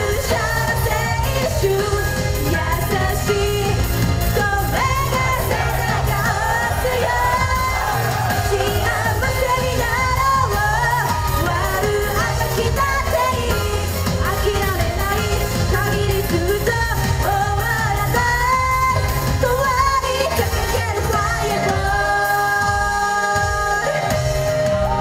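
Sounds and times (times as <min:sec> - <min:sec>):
upbeat pop band: 0:00.0 - 0:25.0
woman singing into microphone: 0:00.0 - 0:25.0.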